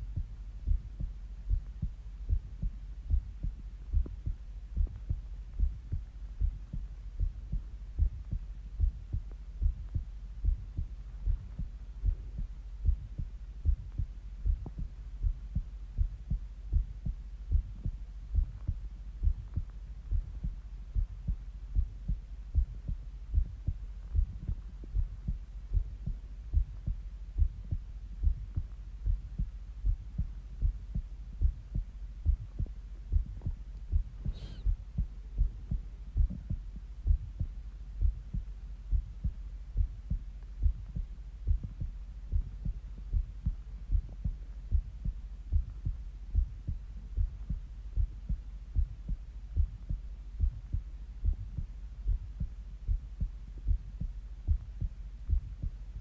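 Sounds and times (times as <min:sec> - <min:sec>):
heartbeat thumps: 0:00.0 - 0:56.0
low hum: 0:00.0 - 0:56.0.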